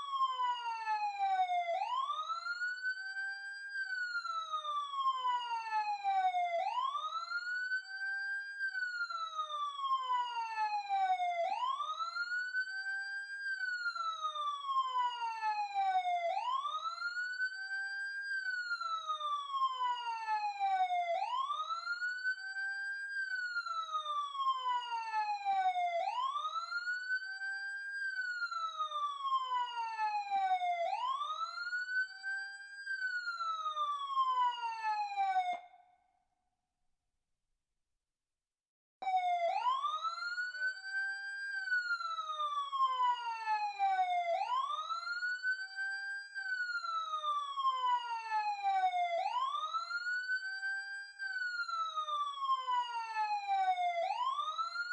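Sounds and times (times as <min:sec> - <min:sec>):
emergency siren wailing: 0:00.0 - 0:35.9, 0:39.0 - 0:54.9.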